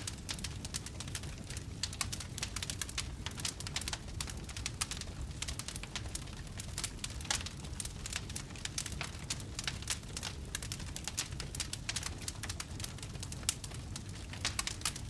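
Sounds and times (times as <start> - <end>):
campfire crackling and popping: 0.0 - 15.0
low rumble of burning fire: 0.0 - 15.0.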